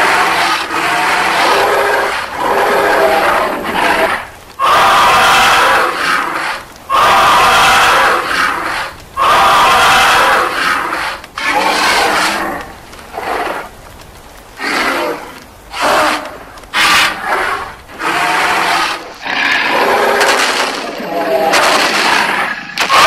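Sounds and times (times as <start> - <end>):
dinosaur roars: 0.0 - 13.7, 14.6 - 23.0.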